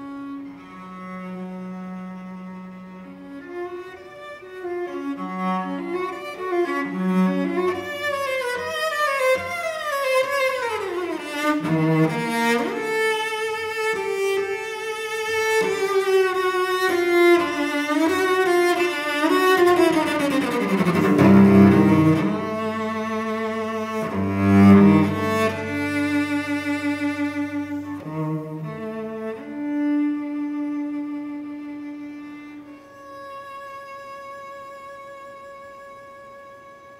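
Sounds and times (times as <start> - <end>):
cello and violin bowing: 0.0 - 36.9.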